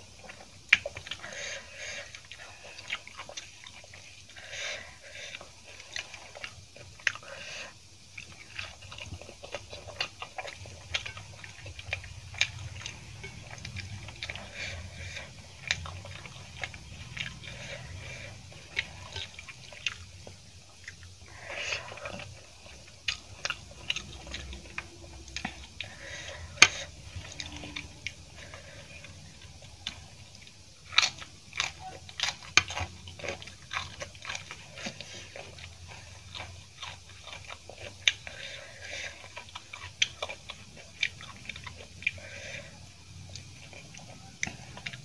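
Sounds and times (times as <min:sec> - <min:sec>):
chewing rice: 0:00.0 - 0:45.0.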